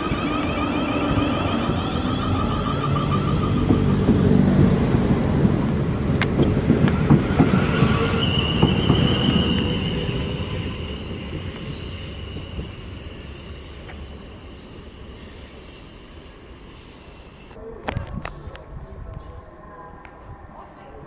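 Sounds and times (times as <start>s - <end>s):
train rumbling: 0.0s - 17.6s.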